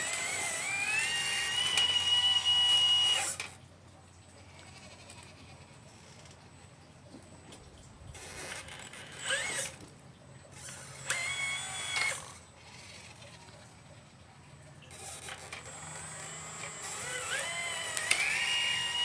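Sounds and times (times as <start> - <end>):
electric motors whining: 0.0 - 3.7, 4.3 - 19.0
faint mechanical hum: 0.0 - 19.0.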